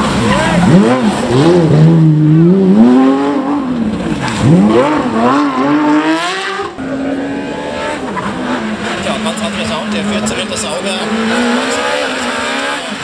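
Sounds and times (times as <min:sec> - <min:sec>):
rally car engine revving hard: 0:00.0 - 0:13.0
second rally car engine steady: 0:00.0 - 0:13.0.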